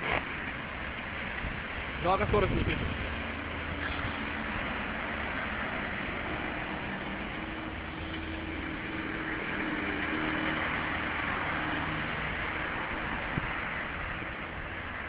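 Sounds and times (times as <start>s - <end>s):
low engine hum: 0.0s - 15.0s
tyres hissing on wet road: 0.0s - 15.0s.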